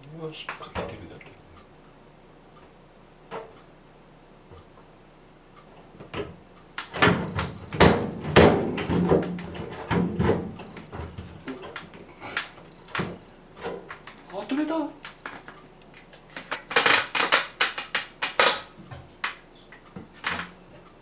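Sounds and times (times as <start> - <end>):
fan parts knocking and rattling: 0.0 - 21.0.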